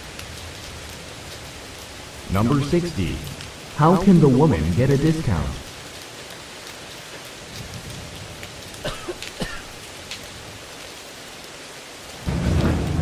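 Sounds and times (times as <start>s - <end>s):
rain-like noise: 0.0s - 13.0s.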